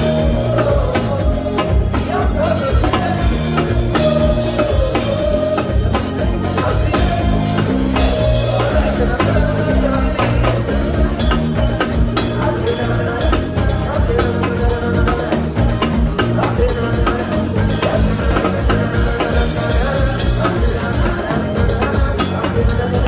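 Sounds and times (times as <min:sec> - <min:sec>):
bass line: 0:00.0 - 0:23.0
drum kit hits: 0:00.0 - 0:23.0.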